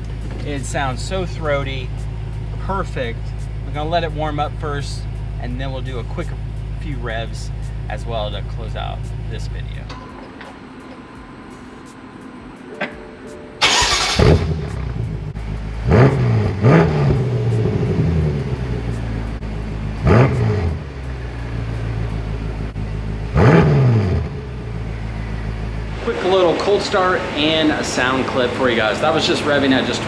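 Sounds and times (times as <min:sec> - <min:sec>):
car engine idling and revving: 0:00.0 - 0:12.8, 0:13.6 - 0:30.0.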